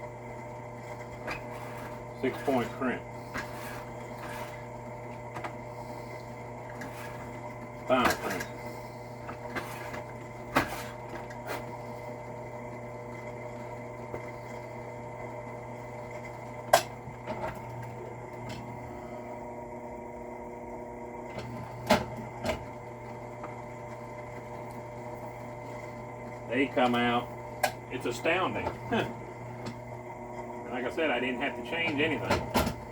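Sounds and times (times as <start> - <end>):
drill press running: 0.0 - 32.9.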